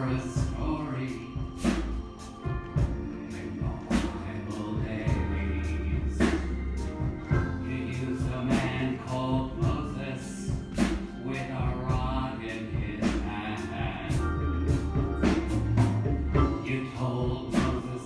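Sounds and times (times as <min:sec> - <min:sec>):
congregation singing gospel song: 0:00.0 - 0:18.0
low bass notes: 0:00.0 - 0:18.0.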